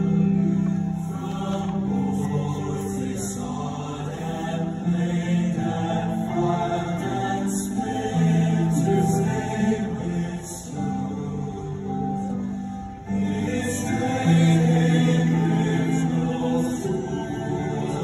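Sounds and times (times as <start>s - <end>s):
male choir singing: 0.0s - 18.0s
piano accompaniment: 0.0s - 18.0s.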